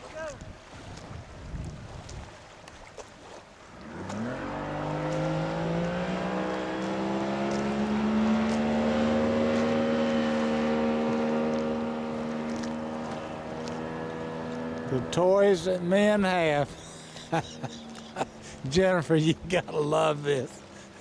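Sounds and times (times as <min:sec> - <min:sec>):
motorboat engine throttling up: 0:03.0 - 0:21.0.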